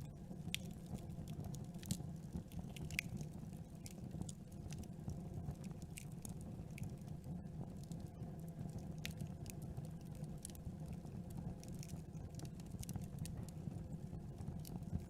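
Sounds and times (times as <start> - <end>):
burning wood crackling and popping: 0.0 - 15.0
rumble of fire flames: 0.0 - 15.0.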